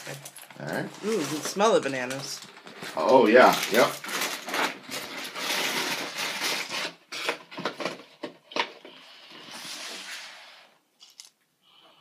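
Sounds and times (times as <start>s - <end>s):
rustling: 0.0s - 11.3s.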